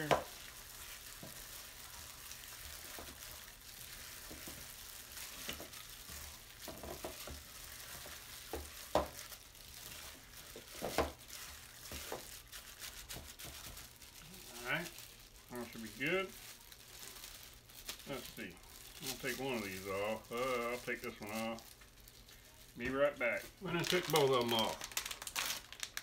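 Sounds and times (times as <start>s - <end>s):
wet squelching of kneaded meat: 0.0s - 26.0s.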